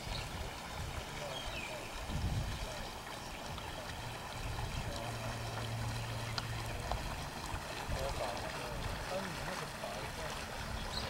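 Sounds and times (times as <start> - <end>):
low steady hum: 0.0 - 11.0
moving water: 0.0 - 11.0.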